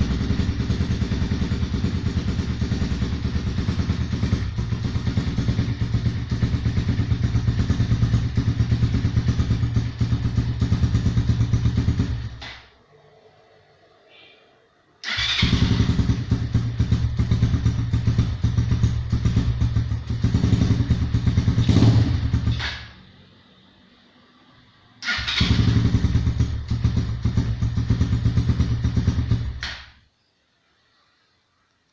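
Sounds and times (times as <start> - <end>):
motorcycle engine starting and idling: 0.0 - 12.8, 15.0 - 23.3, 25.0 - 30.0.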